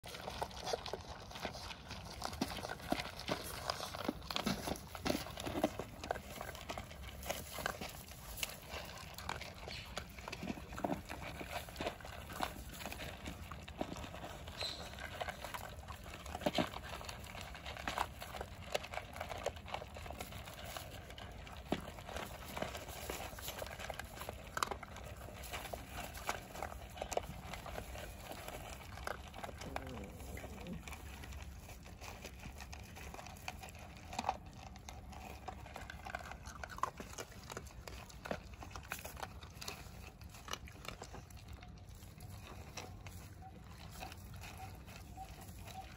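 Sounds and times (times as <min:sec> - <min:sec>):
dogs chewing and lapping: 0:00.0 - 0:45.9
plastic bowls scraping on ground: 0:00.0 - 0:45.9.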